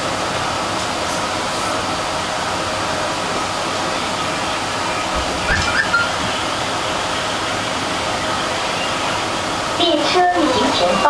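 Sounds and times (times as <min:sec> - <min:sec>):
subway train rushing through tunnel: 0:00.0 - 0:11.0.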